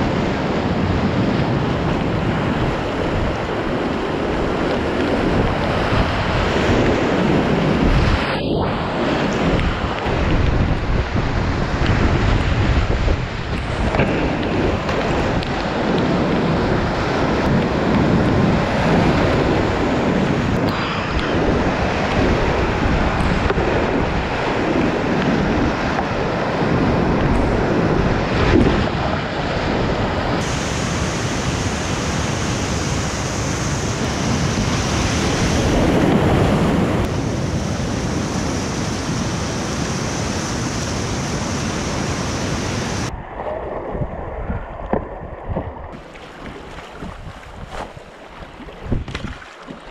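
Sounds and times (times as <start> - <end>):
whitewater rapids rushing: 0.0 - 43.1.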